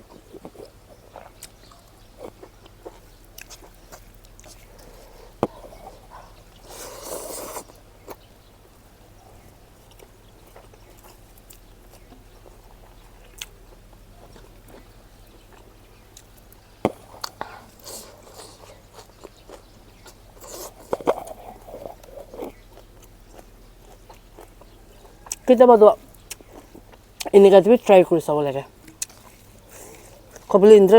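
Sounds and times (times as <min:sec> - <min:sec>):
chewing and mouth smacks: 0:00.0 - 0:27.4, 0:28.8 - 0:30.6.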